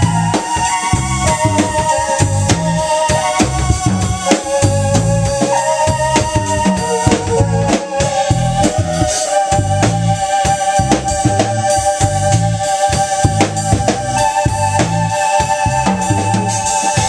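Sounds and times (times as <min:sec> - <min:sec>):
drum kit beat: 0:00.0 - 0:17.0
electric bass: 0:00.0 - 0:17.0
organ-like keyboard chords: 0:00.0 - 0:17.0.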